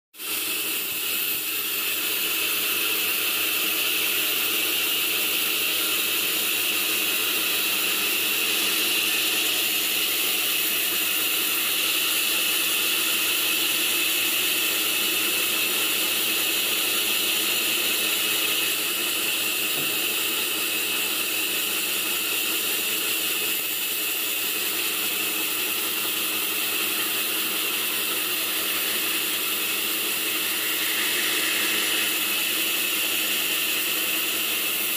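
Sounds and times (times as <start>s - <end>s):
sawmill machine running: 0.2s - 34.9s
band saw cutting wood: 0.3s - 34.9s.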